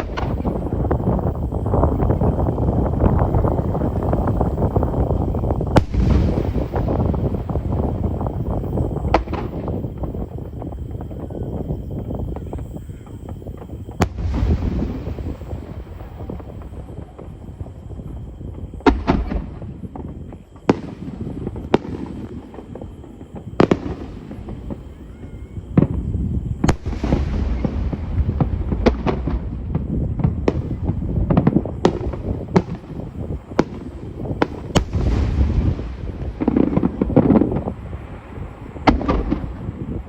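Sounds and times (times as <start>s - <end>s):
firework crackling: 0.0s - 40.0s
firework shells bursting: 0.0s - 40.0s.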